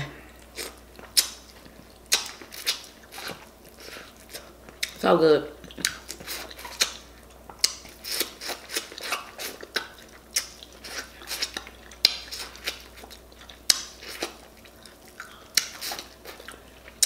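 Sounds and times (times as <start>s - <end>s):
person chewing wetly: 0.3s - 5.0s, 5.6s - 17.0s.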